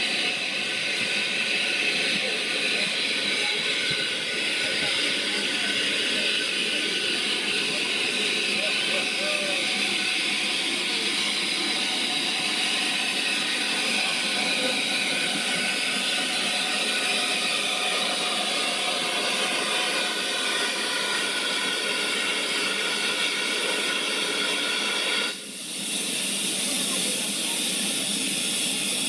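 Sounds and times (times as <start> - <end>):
steam locomotive hissing: 0.0 - 29.0.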